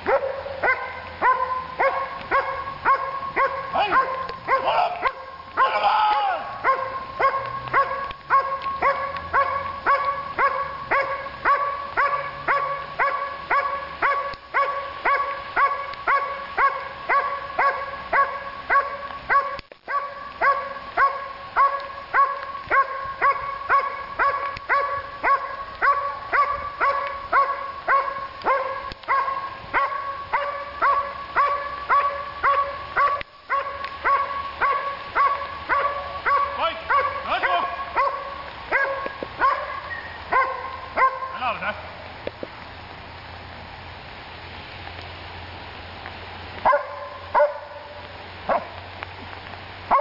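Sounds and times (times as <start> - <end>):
dog barking: 0.0 - 5.8, 6.5 - 41.6, 46.6 - 48.8.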